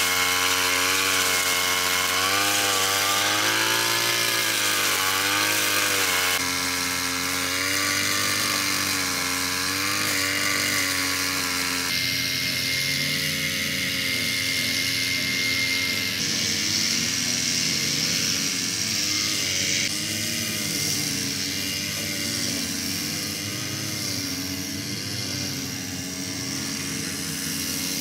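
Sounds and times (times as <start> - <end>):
brush cutter engine running: 0.0 - 28.0.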